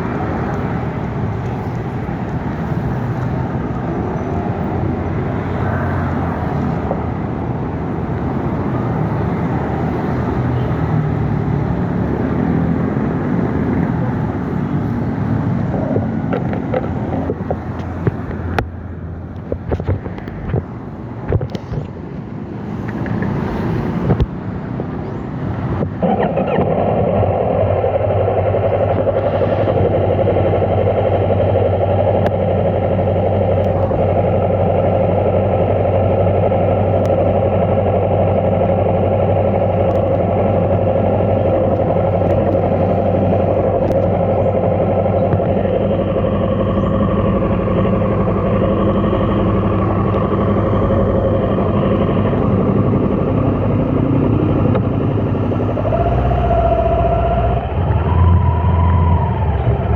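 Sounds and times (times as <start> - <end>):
road and wind noise: 0.0 - 59.9
vehicle engine humming: 0.0 - 59.9.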